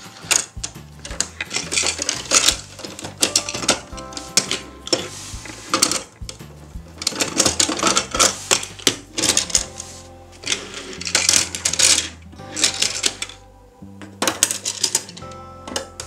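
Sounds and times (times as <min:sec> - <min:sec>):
plastic toys clicking and clattering: 0:00.0 - 0:09.8, 0:10.4 - 0:13.4, 0:14.2 - 0:16.0
background music: 0:00.0 - 0:16.0.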